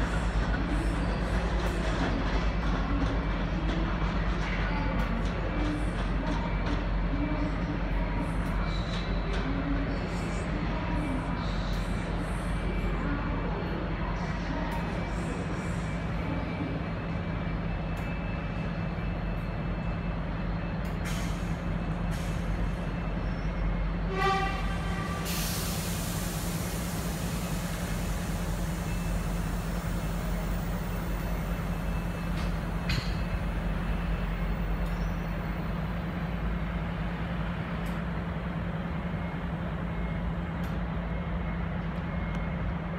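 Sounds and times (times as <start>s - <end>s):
diesel trains rumbling: 0.0s - 42.9s.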